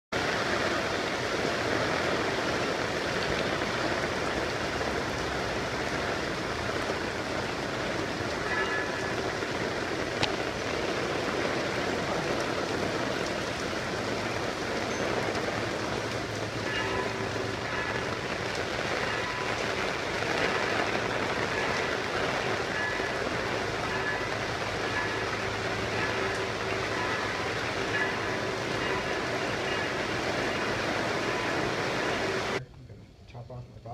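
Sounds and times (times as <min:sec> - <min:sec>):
heavy rain on paving: 0:00.1 - 0:32.6.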